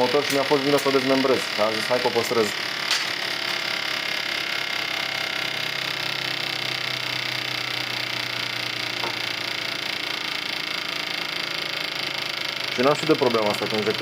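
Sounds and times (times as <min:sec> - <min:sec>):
test bench machine buzzing: 0:00.0 - 0:14.0.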